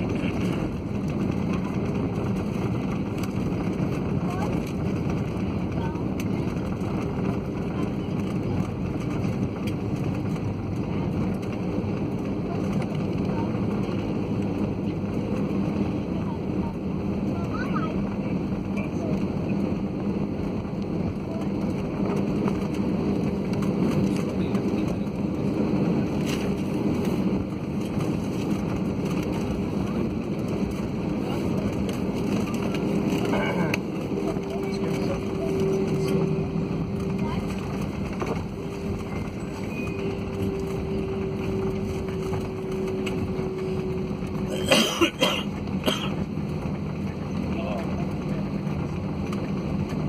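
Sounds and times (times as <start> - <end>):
constant hum: 0.0 - 50.0
engine and runway roar: 0.0 - 50.0.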